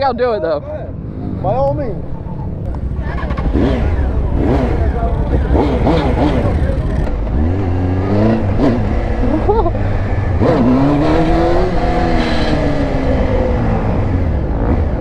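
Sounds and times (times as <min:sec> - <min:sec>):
motorcycle engine revving: 0:02.7 - 0:15.0.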